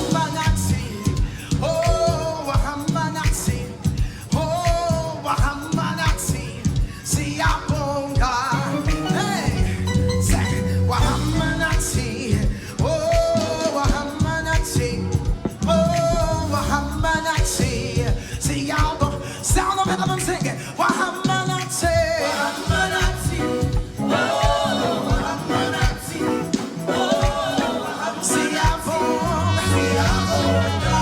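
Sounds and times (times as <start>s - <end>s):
band playing steady beat: 0.0s - 31.0s
voices singing gospel music: 0.0s - 31.0s.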